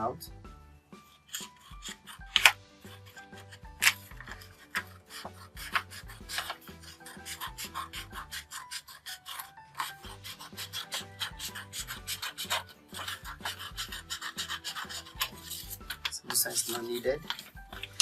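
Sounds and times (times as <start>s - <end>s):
soft background music: 0.0s - 18.0s
scissors cutting cardboard: 1.0s - 18.0s.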